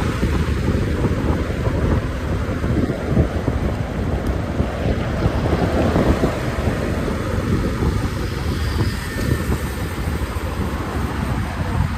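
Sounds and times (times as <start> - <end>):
road noise: 0.0 - 11.9
wind buffeting microphone: 0.0 - 11.9.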